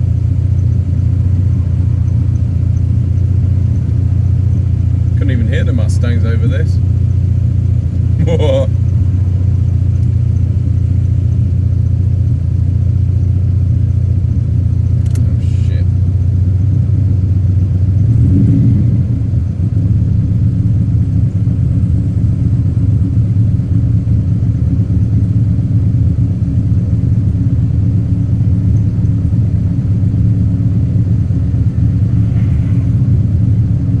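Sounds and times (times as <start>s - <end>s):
car engine deep rumble: 0.0s - 34.0s.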